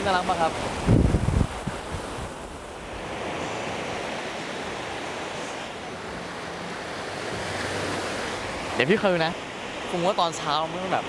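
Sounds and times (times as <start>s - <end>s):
waves washing onto sandy beach: 0.0s - 11.0s.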